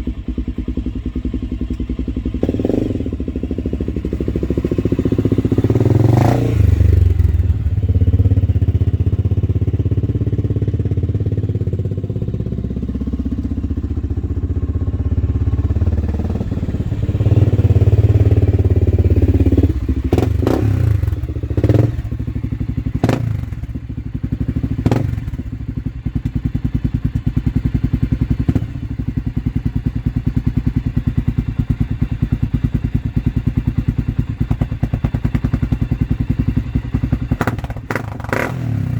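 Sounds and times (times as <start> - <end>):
engine revving and idling: 0.0 - 38.9.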